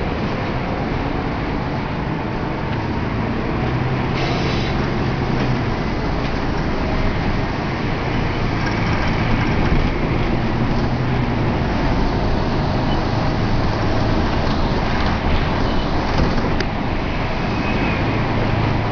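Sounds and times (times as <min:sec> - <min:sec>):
vehicle rumble: 0:00.0 - 0:18.9.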